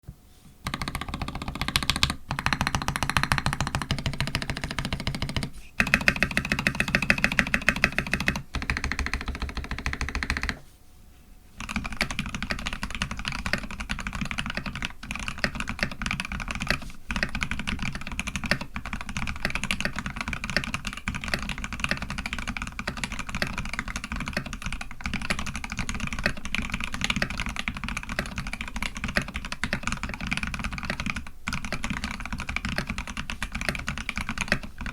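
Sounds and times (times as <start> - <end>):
fast mechanical keyboard typing: 0.6 - 10.6, 11.6 - 34.9.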